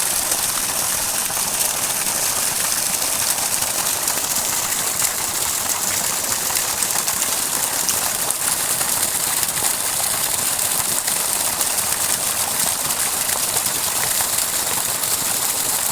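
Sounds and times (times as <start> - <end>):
water gushing from pump outlet: 0.0 - 15.9.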